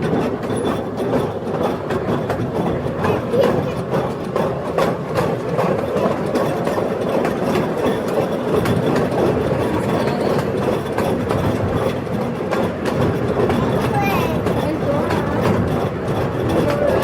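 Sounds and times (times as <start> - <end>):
amusement train rumbling: 0.0 - 17.0
train cars rattling and clacking: 0.0 - 17.0.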